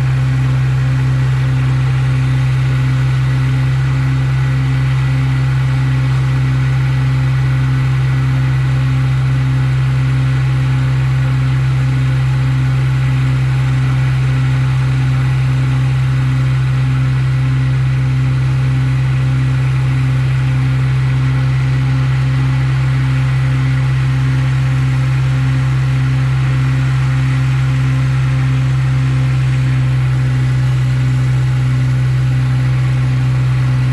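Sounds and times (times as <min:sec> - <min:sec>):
motor humming steadily: 0:00.0 - 0:33.9.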